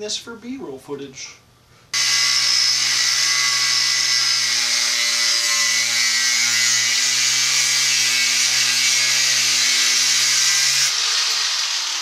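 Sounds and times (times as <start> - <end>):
angle grinder cutting metal: 2.0 - 12.0.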